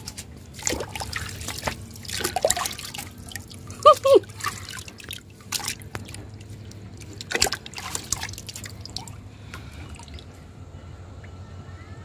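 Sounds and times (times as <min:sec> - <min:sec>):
water dripping: 0:00.0 - 0:10.3.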